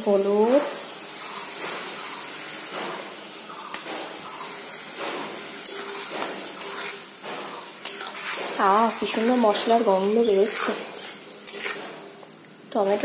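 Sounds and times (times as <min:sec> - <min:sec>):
paste sizzling in oil: 0:00.0 - 0:13.0
spatula scraping a pan: 0:01.1 - 0:12.2.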